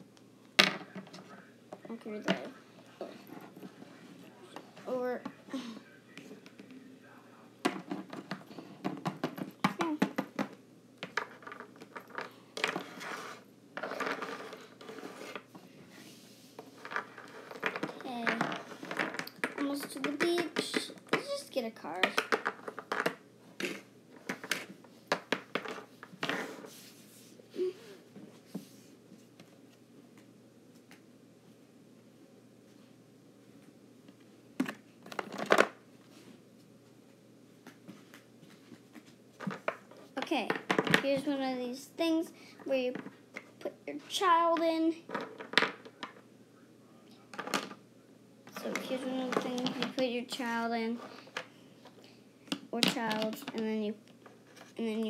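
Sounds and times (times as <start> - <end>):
objects rustling and clattering: 0.6 - 5.4, 7.6 - 31.0, 32.7 - 46.3, 47.2 - 47.8, 48.4 - 55.0.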